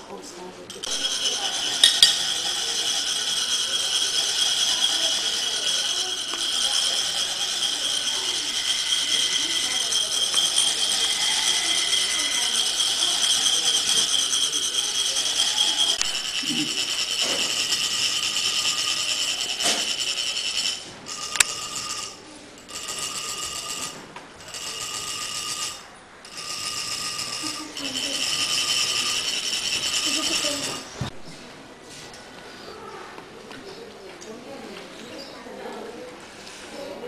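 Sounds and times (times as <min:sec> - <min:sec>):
metal funnel rasped with rod: 0:00.7 - 0:31.0.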